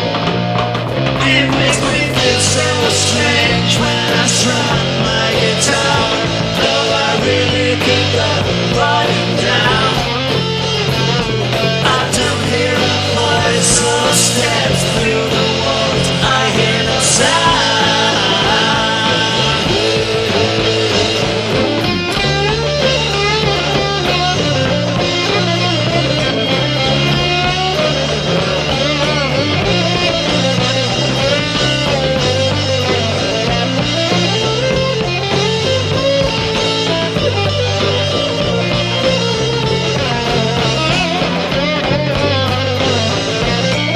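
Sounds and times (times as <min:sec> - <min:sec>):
bass guitar held notes: 0:00.0 - 0:43.9
drums: 0:00.0 - 0:43.9
guitar: 0:00.0 - 0:43.9.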